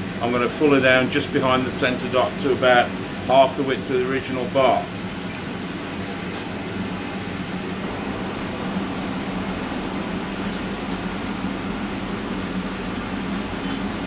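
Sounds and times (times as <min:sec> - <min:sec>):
forge rushing with low hum: 0:00.0 - 0:14.0.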